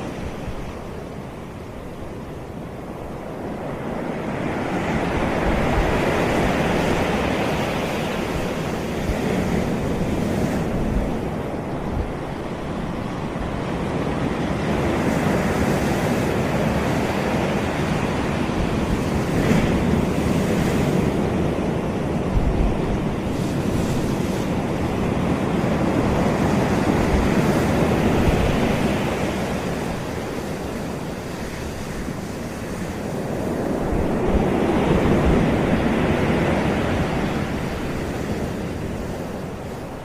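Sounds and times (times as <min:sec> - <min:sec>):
waves breaking: 0:00.0 - 0:40.0
wind rumble on microphone: 0:00.0 - 0:40.0.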